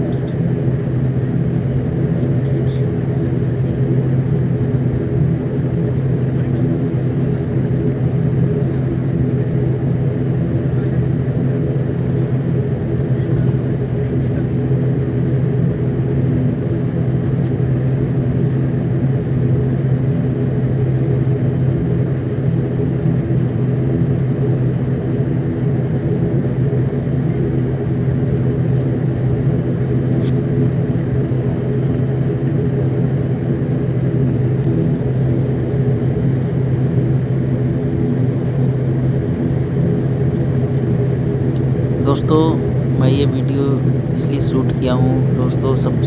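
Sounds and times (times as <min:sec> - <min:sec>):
turboprop engine drone in cabin: 0:00.0 - 0:46.0.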